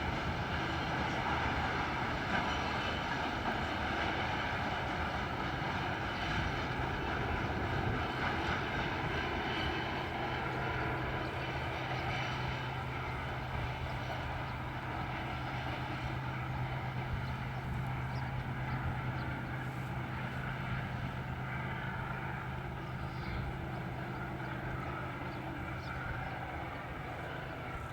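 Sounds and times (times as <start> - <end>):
diesel locomotive engines droning: 0.0 - 27.9.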